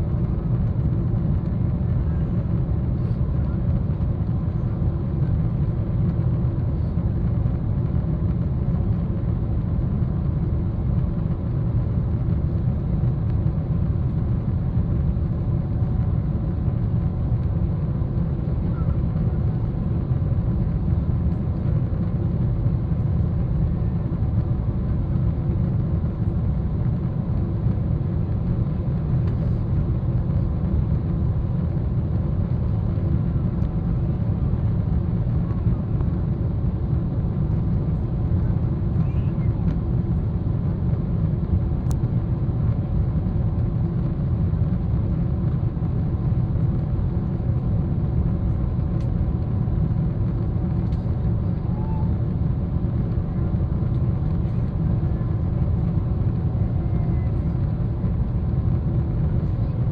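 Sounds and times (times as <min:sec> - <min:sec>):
airliner cabin rumble: 0:00.0 - 0:59.9
faint steady hum: 0:00.0 - 0:59.9.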